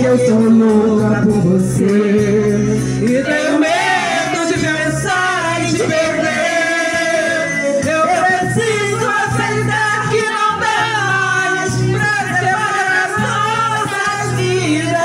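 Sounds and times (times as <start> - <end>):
people singing karaoke: 0.0 - 15.0
romantic pop backing track: 0.0 - 15.0.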